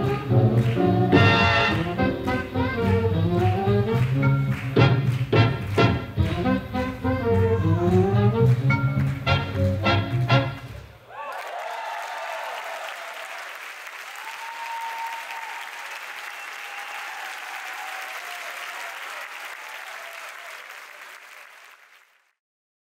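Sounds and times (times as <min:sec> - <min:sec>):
audience applauding: 0:00.0 - 0:22.4.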